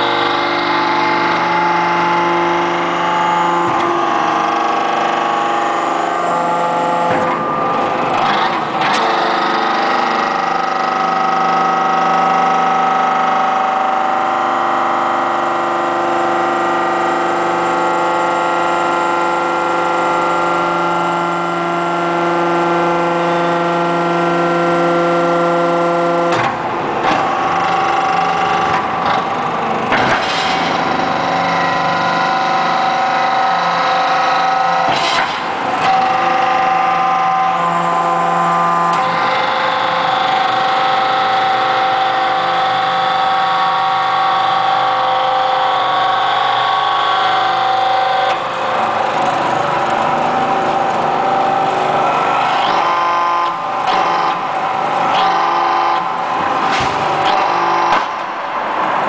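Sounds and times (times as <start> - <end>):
hydraulic pump humming and whining: 0.0 - 59.0.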